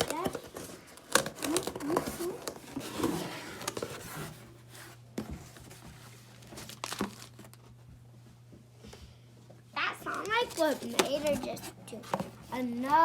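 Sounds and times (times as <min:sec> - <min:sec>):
crinkling and rustling: 0:00.0 - 0:08.0, 0:10.0 - 0:13.0.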